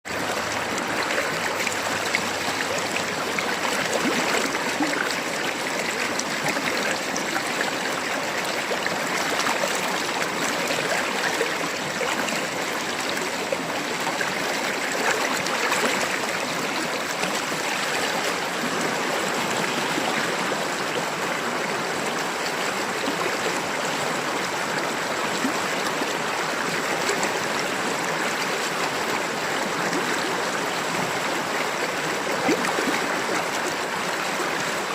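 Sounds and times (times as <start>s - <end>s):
river water rushing over stones: 0.1s - 34.9s.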